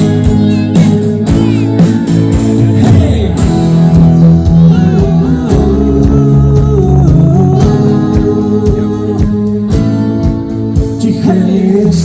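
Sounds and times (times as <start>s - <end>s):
electric guitar: 0.0s - 12.0s
rock band playing: 0.0s - 12.0s.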